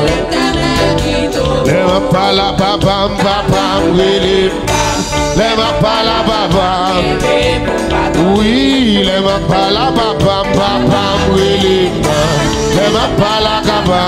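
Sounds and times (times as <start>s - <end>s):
gospel band playing: 0.0s - 14.0s.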